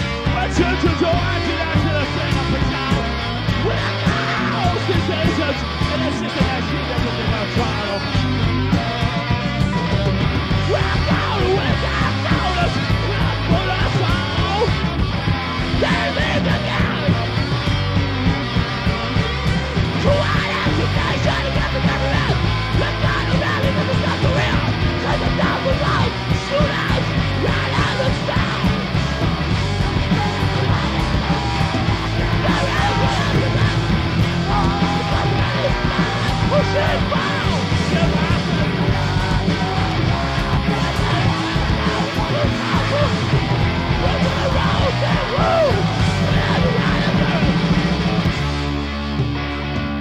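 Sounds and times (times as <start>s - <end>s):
bass guitar: 0.0s - 50.0s
distorted electric guitars: 0.0s - 50.0s
drums: 0.0s - 50.0s.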